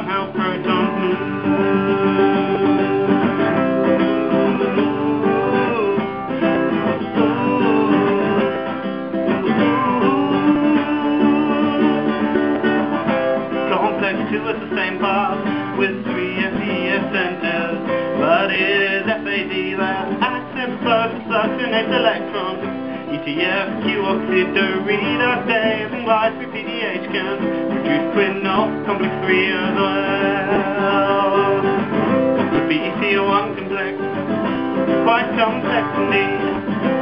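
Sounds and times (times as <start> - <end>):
acoustic guitar strumming: 0.0 - 37.0
man singing: 0.0 - 37.0.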